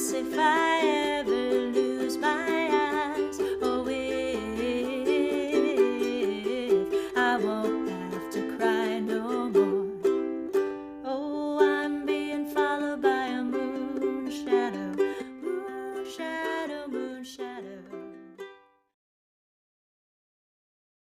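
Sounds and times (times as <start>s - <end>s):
ukulele strumming: 0.0s - 18.7s.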